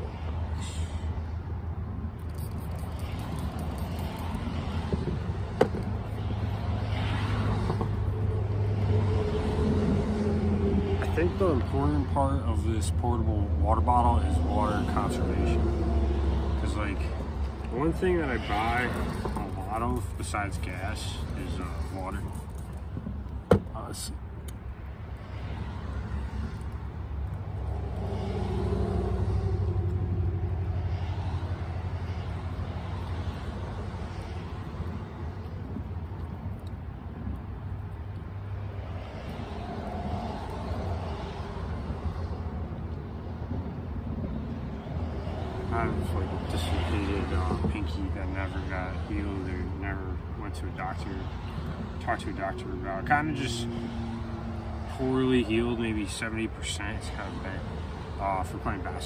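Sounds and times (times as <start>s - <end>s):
vehicle engine rumble passing: 0.0s - 59.0s.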